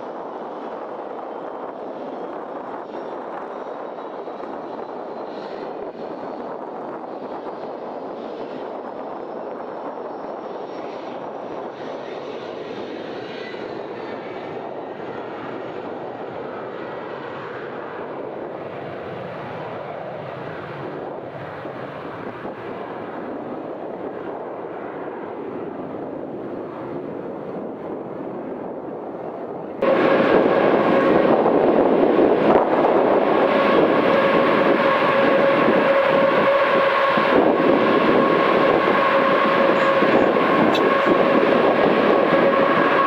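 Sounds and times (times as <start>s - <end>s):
jet engine rush with whine: 0.0s - 43.0s.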